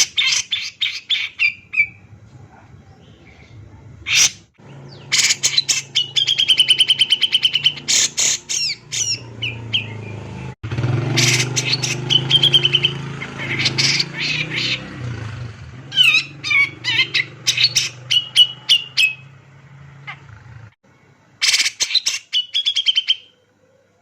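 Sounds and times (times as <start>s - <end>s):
bird singing with trills: 0.0s - 2.1s, 2.8s - 15.0s, 15.9s - 19.4s, 21.4s - 23.4s.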